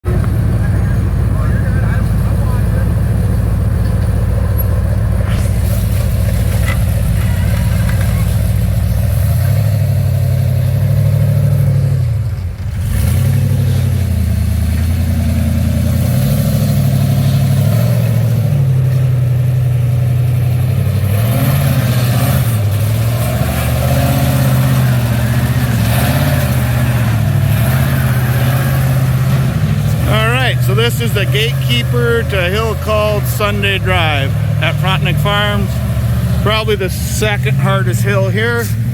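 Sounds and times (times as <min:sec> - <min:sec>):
off-road vehicle engine revving: 0:00.0 - 0:38.9.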